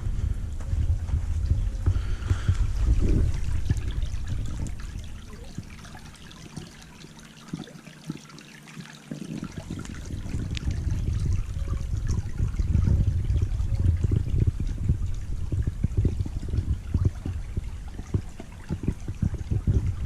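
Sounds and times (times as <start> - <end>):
creek trickling: 0.0 - 20.0
low rumble on microphone: 0.0 - 20.0.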